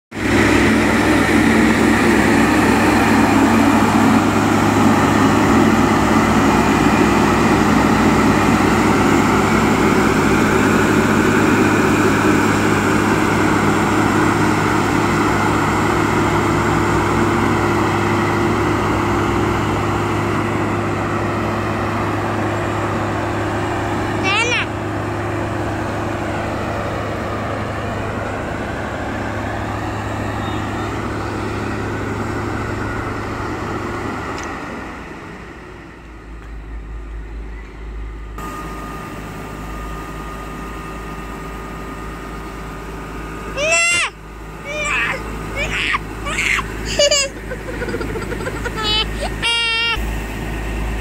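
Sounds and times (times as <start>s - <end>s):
diesel engine rumbling: 0.1s - 51.0s.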